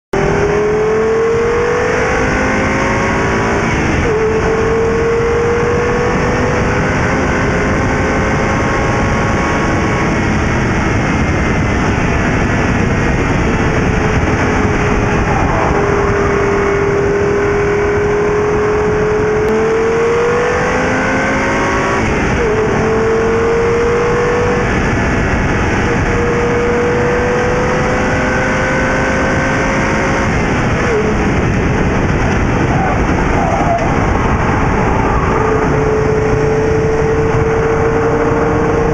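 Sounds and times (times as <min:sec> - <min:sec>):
car engine running hard: 0:00.1 - 0:38.9
wind and road noise: 0:00.1 - 0:38.9.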